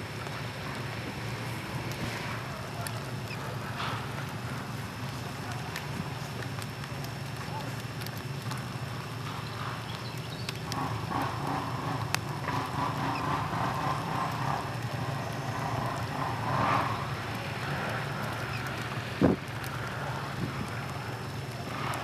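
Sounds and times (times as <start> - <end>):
distant quad bike engines: 0.0 - 22.0.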